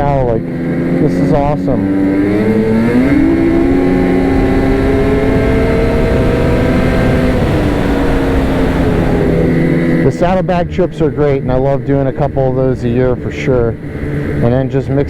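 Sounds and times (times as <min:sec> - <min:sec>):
snowmobile engine revving high: 0:00.0 - 0:15.0.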